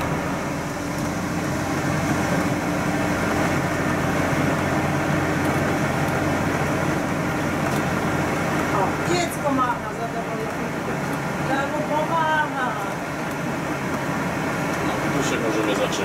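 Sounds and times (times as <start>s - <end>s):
bus engine hum: 0.0s - 16.0s
road noise: 0.0s - 16.0s.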